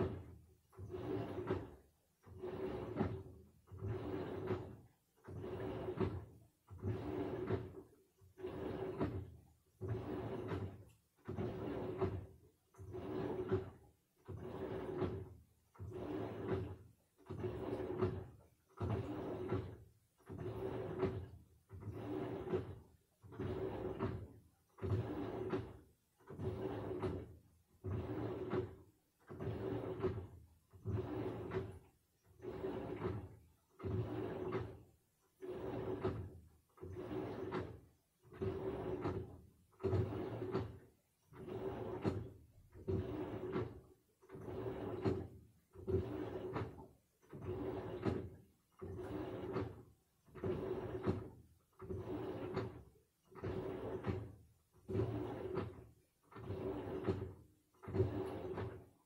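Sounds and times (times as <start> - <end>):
washing machine churning: 0.0 - 59.0.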